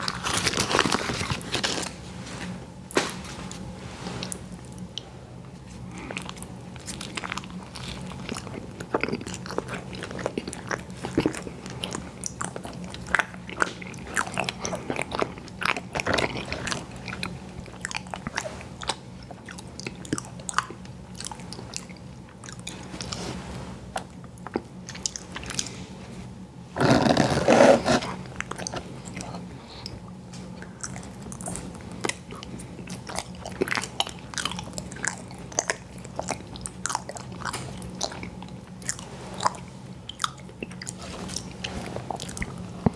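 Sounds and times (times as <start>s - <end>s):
crunchy chewing of ice cream: 0.0s - 42.9s
faint low hum: 0.0s - 42.9s.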